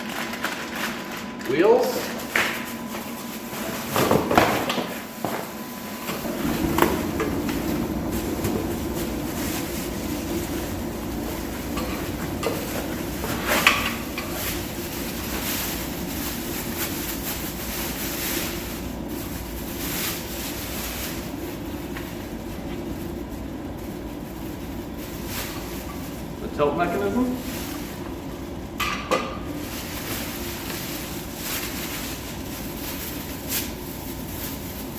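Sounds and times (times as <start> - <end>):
steady mechanical rumble: 1.1 - 34.9.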